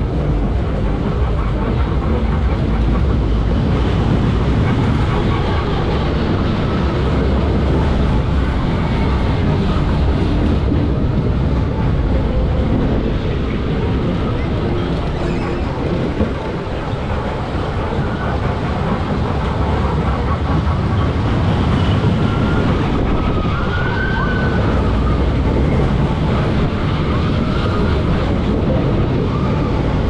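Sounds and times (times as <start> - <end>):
faint gliding tones: 0.0 - 30.0
funfair ride rumble: 0.0 - 30.0
wind rushing past: 0.0 - 30.0.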